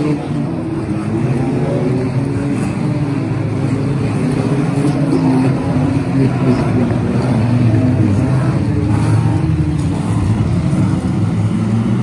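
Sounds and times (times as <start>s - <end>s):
racing car engines: 0.0s - 12.0s
steady rush of noise: 0.0s - 12.0s.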